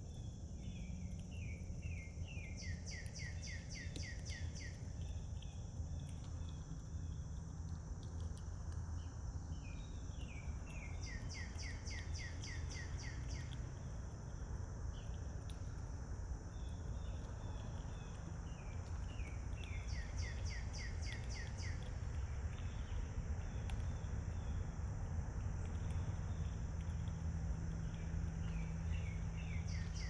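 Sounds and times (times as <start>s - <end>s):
low background rumble: 0.0s - 30.0s
songbird singing: 0.0s - 30.0s.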